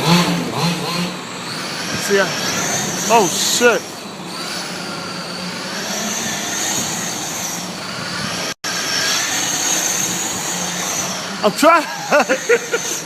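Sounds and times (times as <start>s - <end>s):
rc car motors whining: 0.0s - 13.0s.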